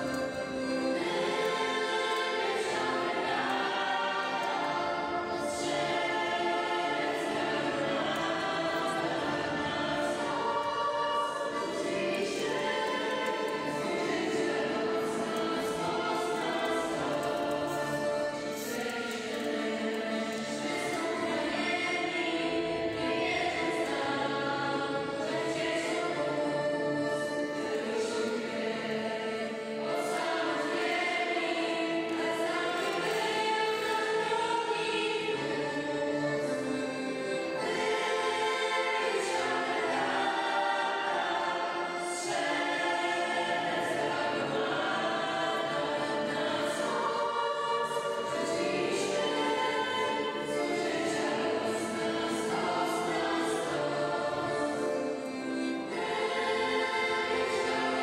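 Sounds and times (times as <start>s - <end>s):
accordion: 0.0s - 58.0s
choir of young voices singing: 0.0s - 58.0s.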